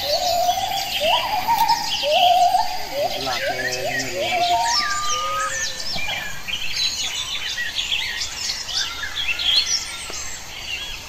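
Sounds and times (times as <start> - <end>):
wild birds chirping and whistling: 0.0 - 11.0.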